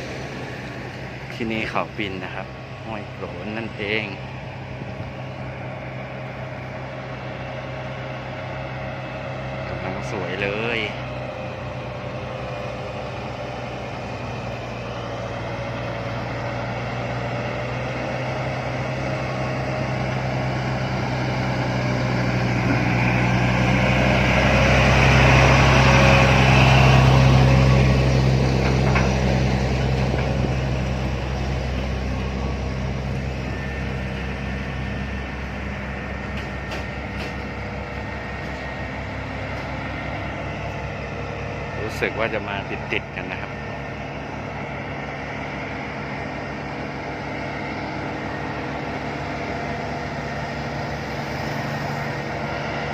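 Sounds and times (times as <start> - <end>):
diesel truck engine under load: 0.0 - 52.9.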